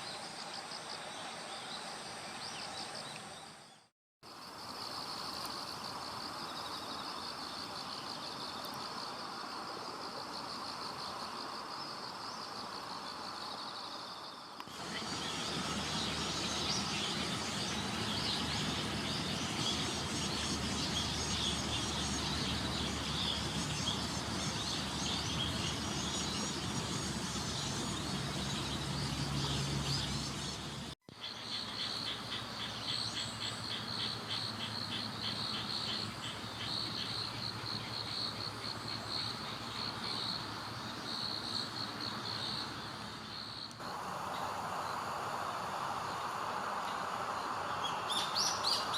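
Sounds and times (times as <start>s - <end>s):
insects chirping and trilling: 0.0s - 48.9s.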